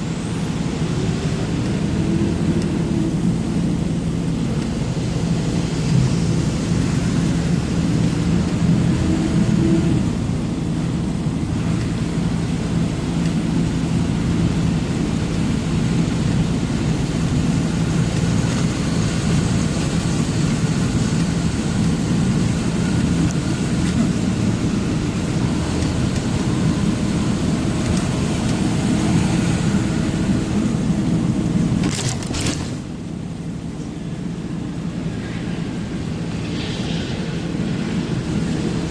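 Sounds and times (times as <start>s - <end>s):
road noise: 0.0s - 38.9s
truck engine droning: 0.0s - 38.9s.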